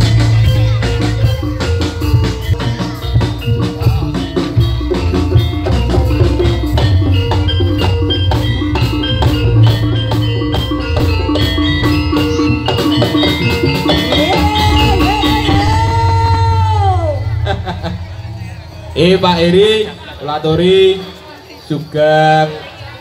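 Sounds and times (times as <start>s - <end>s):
hand drums: 0.0s - 20.7s
mallet-struck metal keyed instruments: 0.0s - 22.0s
gamelan music: 0.0s - 23.0s.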